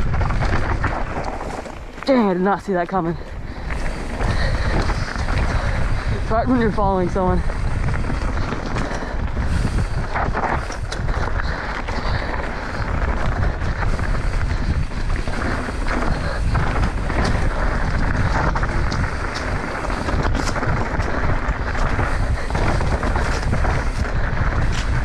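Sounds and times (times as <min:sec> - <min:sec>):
bike rattles and knocks: 0:00.0 - 0:25.0
bike tyres rolling over dirt: 0:00.0 - 0:25.0
wind rushing over microphone: 0:00.0 - 0:25.0.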